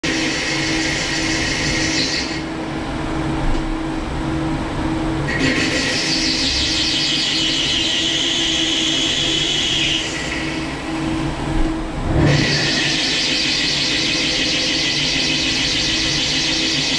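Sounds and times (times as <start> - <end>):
lathe machine hum: 0.0 - 16.9.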